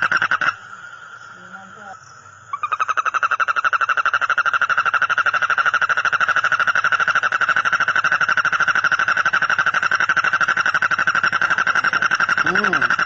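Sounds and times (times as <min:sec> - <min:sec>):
frog trilling: 0:00.0 - 0:13.0.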